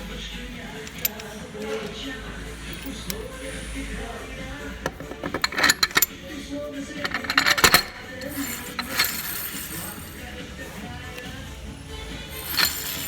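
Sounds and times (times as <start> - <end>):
metal parts clinking: 0.2 - 11.3, 12.2 - 13.0.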